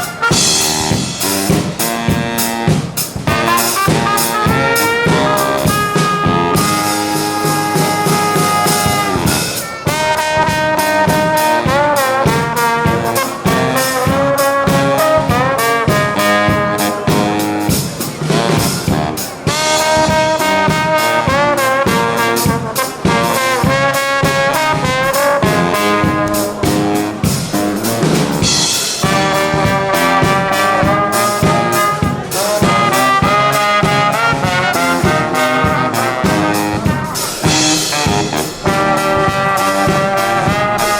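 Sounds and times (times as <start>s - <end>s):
steady drum beat: 0.0s - 40.9s
trumpets and trombones: 0.0s - 40.9s.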